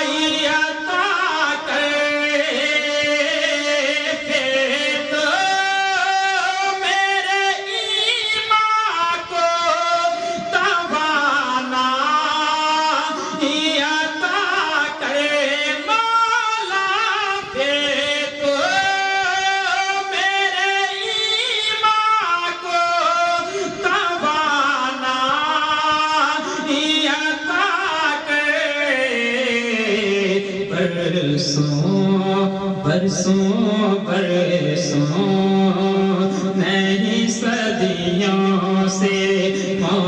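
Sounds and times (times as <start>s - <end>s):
man singing: 0.0s - 40.0s.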